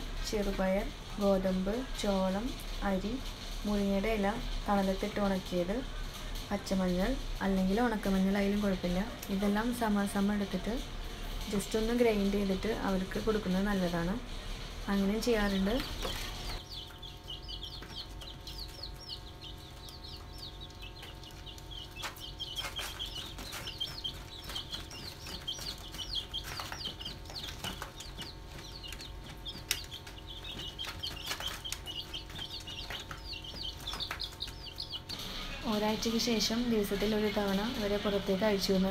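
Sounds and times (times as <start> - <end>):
chicks peeping: 0.1 - 38.9.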